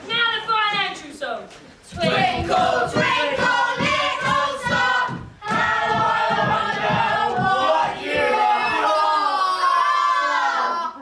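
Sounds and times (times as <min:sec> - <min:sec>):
chorus singing stage song: 0:01.9 - 0:11.0.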